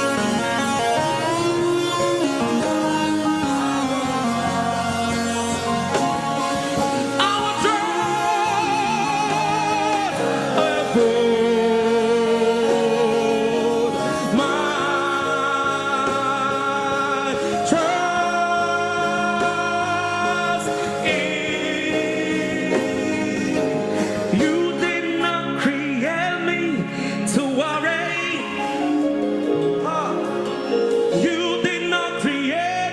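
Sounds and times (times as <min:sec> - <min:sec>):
instrumental accompaniment: 0:00.0 - 0:32.9
voices singing held notes: 0:00.0 - 0:32.9.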